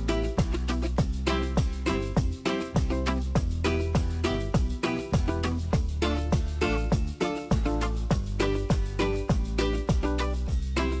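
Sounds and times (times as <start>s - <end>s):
music with steady beat: 0.0s - 11.0s
strong bass line: 0.0s - 11.0s.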